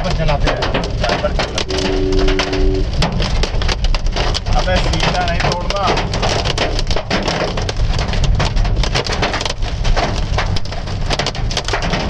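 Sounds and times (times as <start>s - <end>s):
hail clattering on a car: 0.0s - 1.7s, 2.8s - 12.0s
rushing rain: 0.0s - 12.0s.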